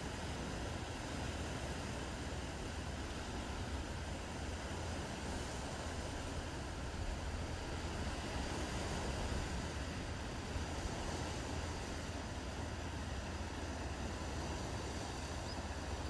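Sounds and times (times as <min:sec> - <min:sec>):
sea waves washing: 0:00.0 - 0:16.0.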